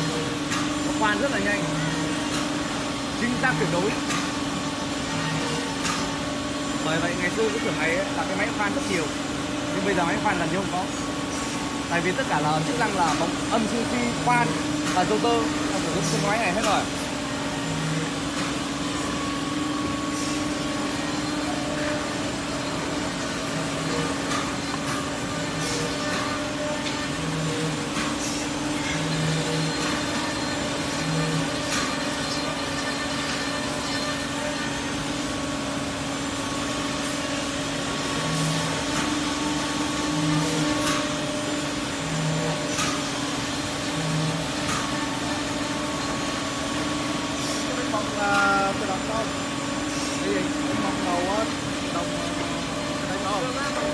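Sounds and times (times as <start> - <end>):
machine hum: 0.0 - 53.9.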